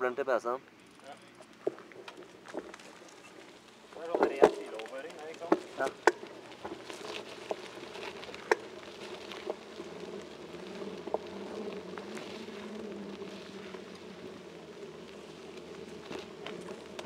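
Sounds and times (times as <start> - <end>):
camera movement hum: 0.6 - 17.0.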